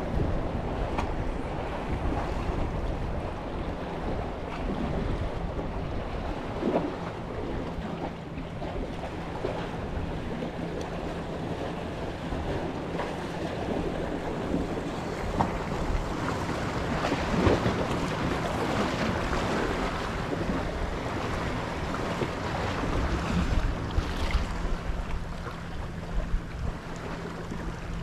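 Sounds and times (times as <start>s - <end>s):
wind buffeting microphone: 0.0s - 28.0s
waves splashing against concrete: 4.5s - 28.0s.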